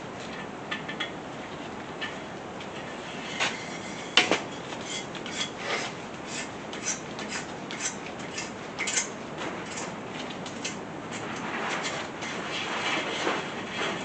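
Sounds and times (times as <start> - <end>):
tool scraping threads: 2.0 - 14.0.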